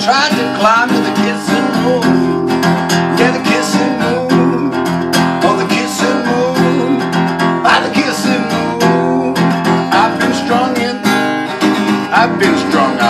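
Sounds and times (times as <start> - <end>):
acoustic guitar strummed: 0.0 - 13.0
man singing: 0.0 - 13.0.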